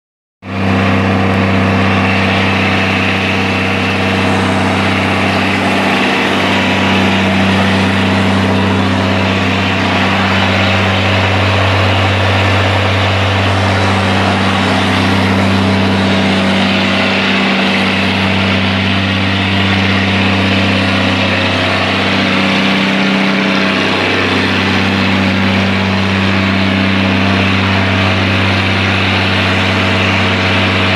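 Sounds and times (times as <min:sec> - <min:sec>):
diesel tractor engine idling: 0:00.5 - 0:30.9.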